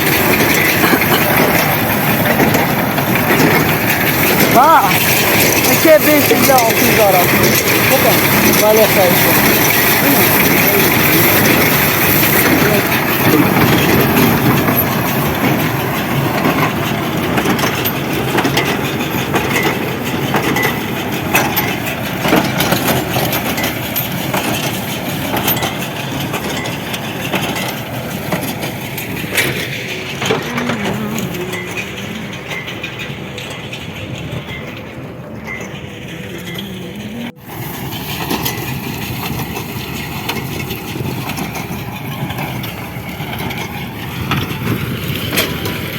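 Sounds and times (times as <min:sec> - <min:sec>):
hay baler knocking: 0:00.0 - 0:45.9
tractor running: 0:00.0 - 0:45.9.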